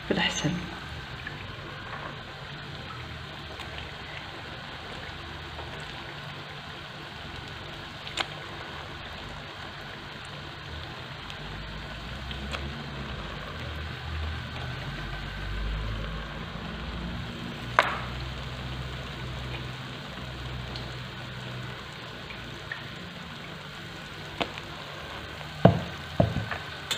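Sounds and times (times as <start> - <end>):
hot oil sizzling: 0.0 - 26.9.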